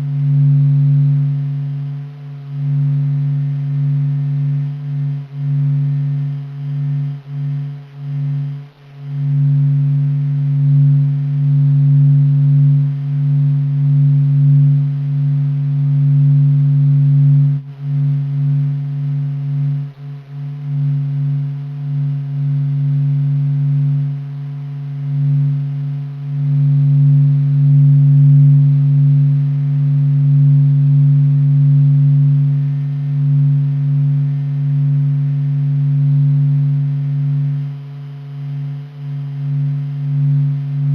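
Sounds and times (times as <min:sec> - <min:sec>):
low droning hum: 0:00.0 - 0:40.9.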